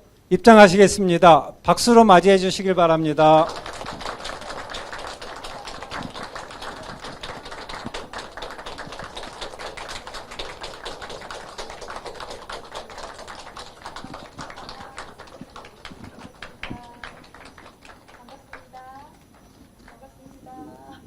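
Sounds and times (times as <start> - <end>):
audience applauding: 2.6 - 20.1.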